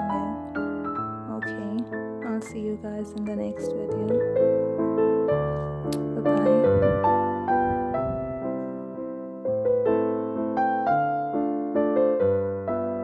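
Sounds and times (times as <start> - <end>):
soft slow piano: 0.0 - 13.0.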